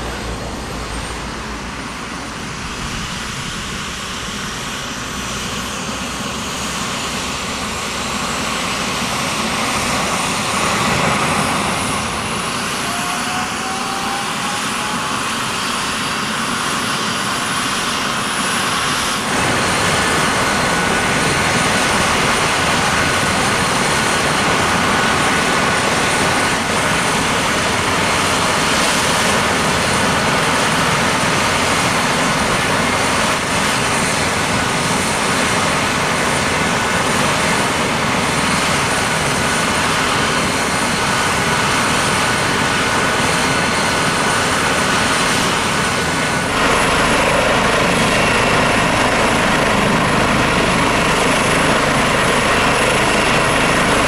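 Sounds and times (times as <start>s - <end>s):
helicopter engine and rotor rush: 0.0s - 54.0s
helicopter turbine whine: 0.0s - 54.0s.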